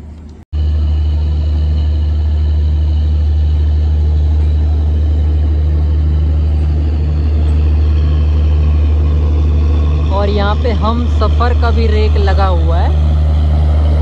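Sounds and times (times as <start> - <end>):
faint hum: 0.0 - 14.0
train machinery low drone: 0.0 - 14.0.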